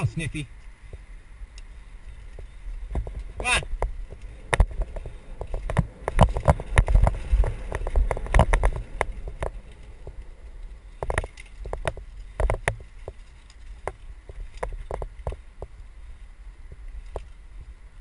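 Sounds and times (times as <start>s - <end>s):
low rumble: 0.0s - 18.0s
mountain bike rattling: 0.0s - 18.0s.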